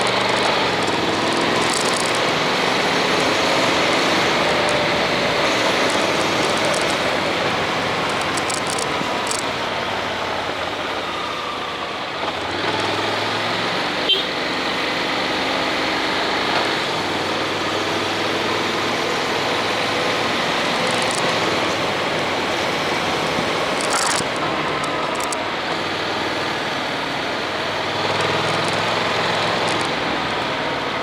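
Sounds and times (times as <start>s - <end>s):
motorcycle engine running: 0.0s - 10.9s, 15.8s - 31.0s
wind and road noise: 0.0s - 31.0s.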